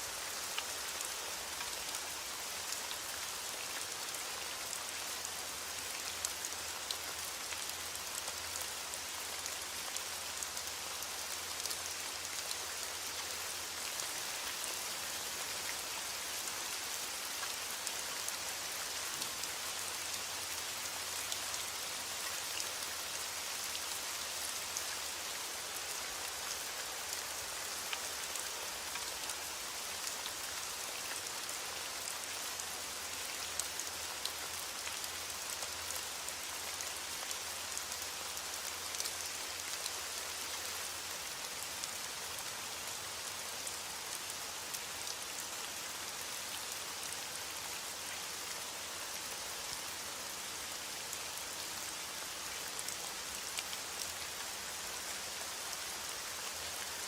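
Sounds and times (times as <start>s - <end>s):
rain falling on a surface: 0.0s - 57.0s.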